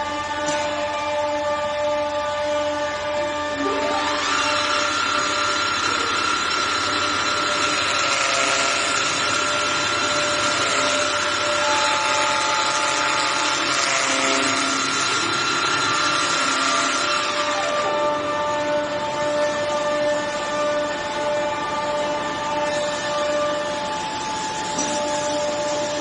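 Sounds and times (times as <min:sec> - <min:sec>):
lathe drive whine: 0:00.0 - 0:26.0.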